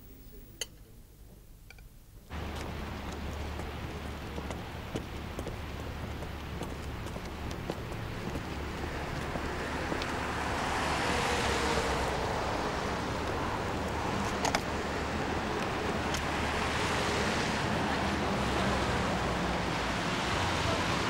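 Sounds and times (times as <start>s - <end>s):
wind: 0.0s - 21.0s
city street traffic: 2.3s - 21.0s.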